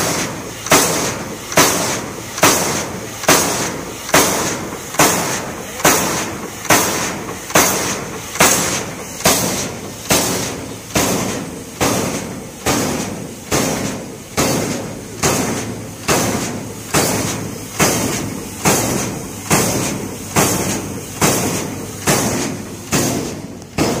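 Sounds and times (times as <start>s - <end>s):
exhaust steam hissing: 0.0s - 24.0s
pile driver hammer pounding: 0.0s - 24.0s.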